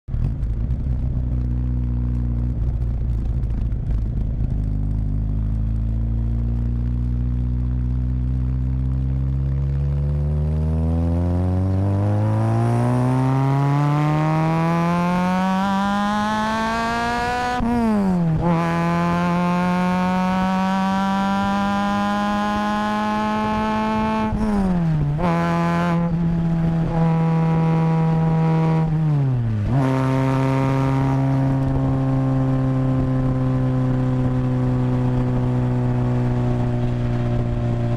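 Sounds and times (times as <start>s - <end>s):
car engine and exhaust accelerating: 0.1s - 37.9s.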